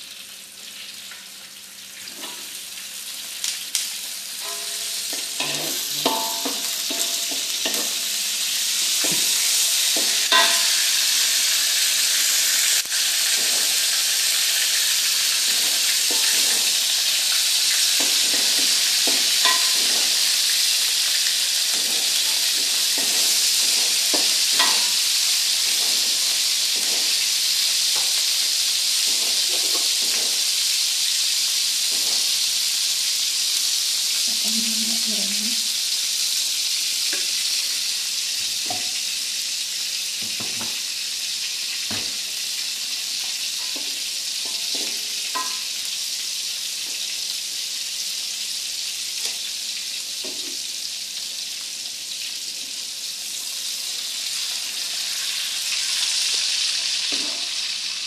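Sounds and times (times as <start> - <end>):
eggplant sizzling in hot oil: 0.0 - 58.0.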